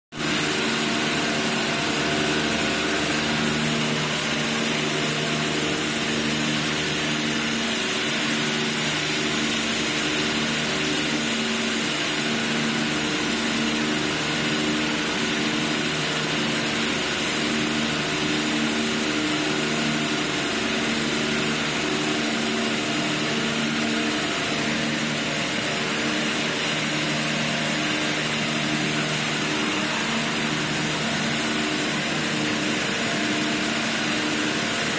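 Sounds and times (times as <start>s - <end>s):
high-pressure water jets hissing: 0.2s - 34.9s
pump machinery humming: 0.2s - 34.9s.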